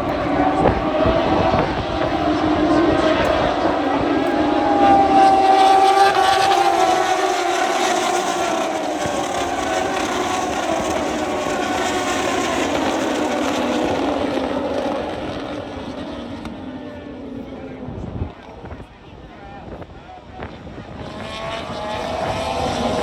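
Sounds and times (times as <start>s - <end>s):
race motorcycles passing at speed: 0.0s - 23.0s.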